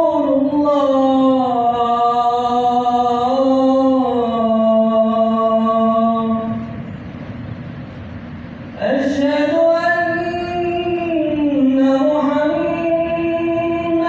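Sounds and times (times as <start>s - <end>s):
man chanting call to prayer: 0.0s - 6.8s, 8.8s - 14.0s.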